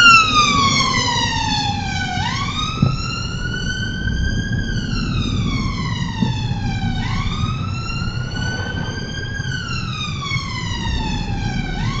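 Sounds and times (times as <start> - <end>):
emergency siren wailing: 0.0 - 12.0
low road and engine rumble: 0.0 - 12.0.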